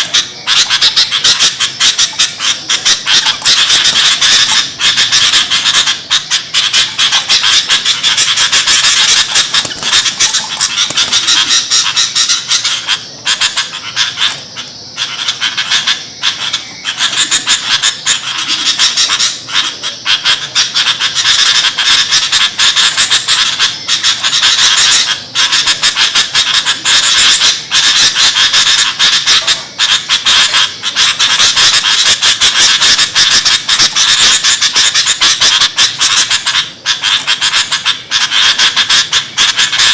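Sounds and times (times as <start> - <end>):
bulbul chattering: 0.0 - 39.9.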